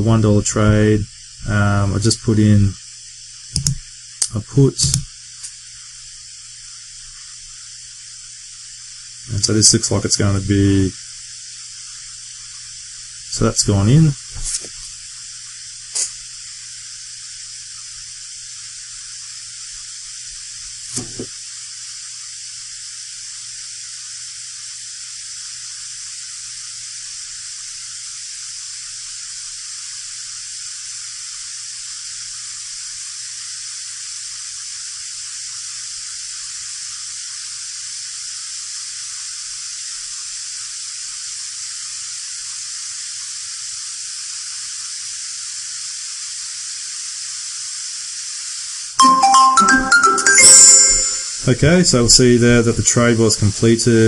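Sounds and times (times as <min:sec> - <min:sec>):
electronic microphone hiss: 0:00.0 - 0:54.0.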